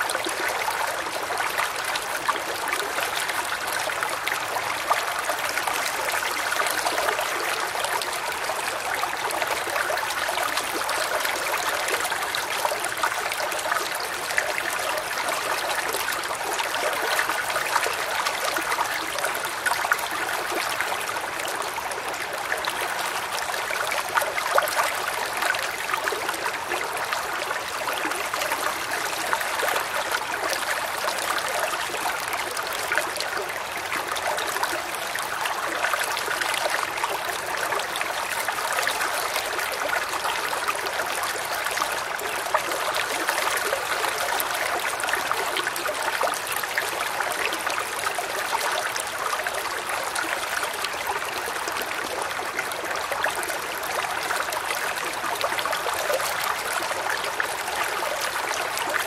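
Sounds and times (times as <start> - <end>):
creek babbling over stones: 0.0 - 59.0.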